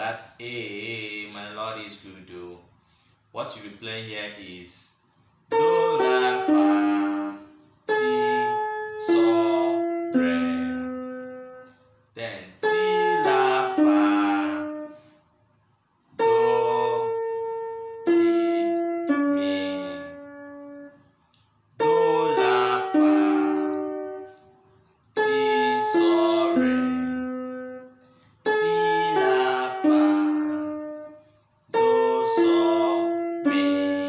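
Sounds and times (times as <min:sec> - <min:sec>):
electronic keyboard chords: 0:05.5 - 0:15.0, 0:16.2 - 0:34.0.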